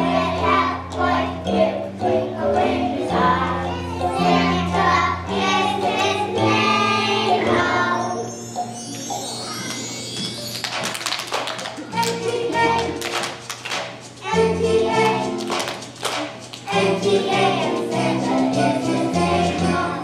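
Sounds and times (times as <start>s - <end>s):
children's choir singing: 0.0s - 10.5s, 11.8s - 13.4s, 14.2s - 20.0s
instrumental accompaniment with bass: 0.0s - 11.1s, 11.7s - 20.0s.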